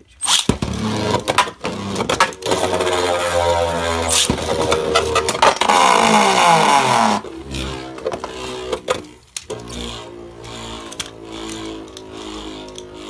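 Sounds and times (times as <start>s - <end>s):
spinning tops whirring on plastic: 0.2s - 13.0s.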